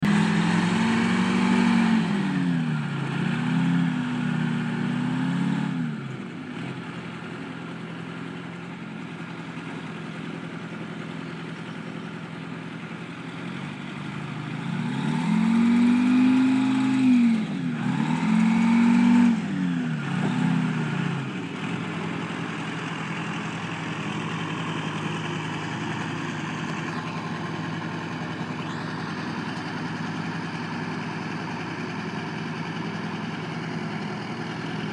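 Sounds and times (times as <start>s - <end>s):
railcar mover engine revving and idling: 0.0s - 34.9s.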